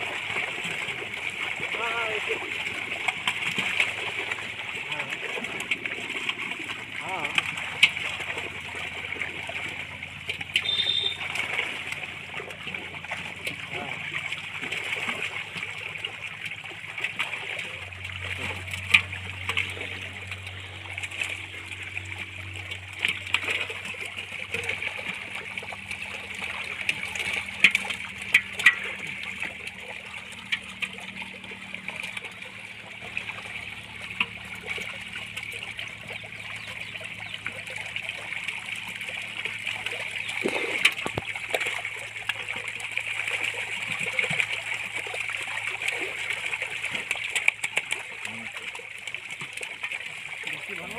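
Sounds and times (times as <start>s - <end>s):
fish thrashing in water: 0.0s - 50.9s
sharp splashes: 0.0s - 50.9s.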